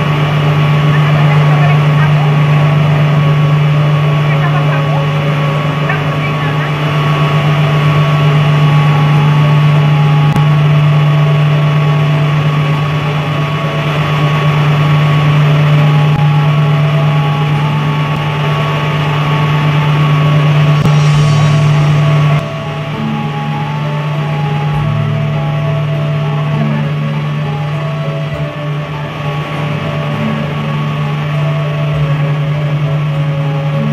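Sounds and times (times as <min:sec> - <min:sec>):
high whine: 0:00.0 - 0:33.9
motor droning: 0:00.0 - 0:33.9.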